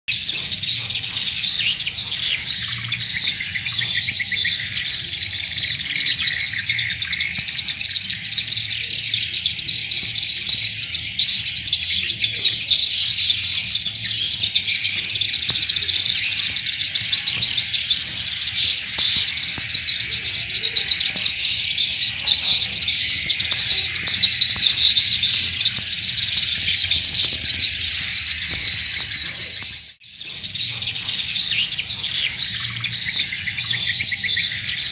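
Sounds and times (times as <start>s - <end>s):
swiftlets twittering chirps: 0.1s - 34.9s.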